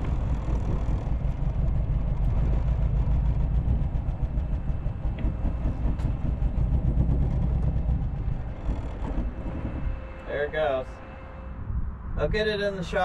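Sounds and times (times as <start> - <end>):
car engine running roughly: 0.0 - 11.4.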